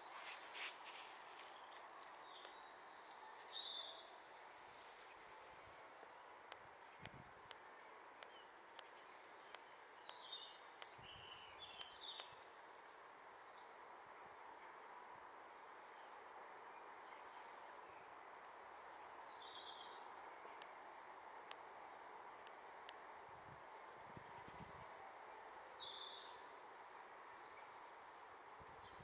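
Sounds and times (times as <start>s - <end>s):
small birds chirping: 0.0s - 13.8s, 15.6s - 23.1s, 24.3s - 29.0s
soft outdoor hiss: 0.0s - 29.0s.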